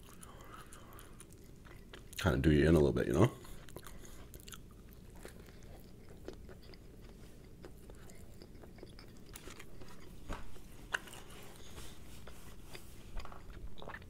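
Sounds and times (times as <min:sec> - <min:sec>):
person chewing crunchy food: 0:00.0 - 0:02.7, 0:03.3 - 0:14.0.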